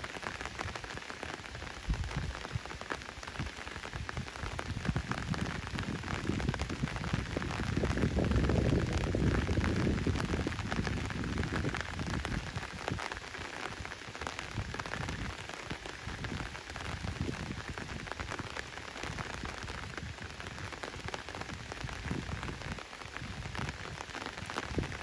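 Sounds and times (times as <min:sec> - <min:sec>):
rain hissing: 0:00.0 - 0:25.0
raindrop ticks: 0:00.0 - 0:25.0.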